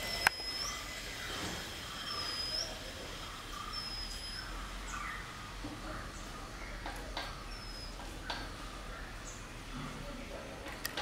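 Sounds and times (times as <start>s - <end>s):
lower bird chirps: 0.0s - 9.7s.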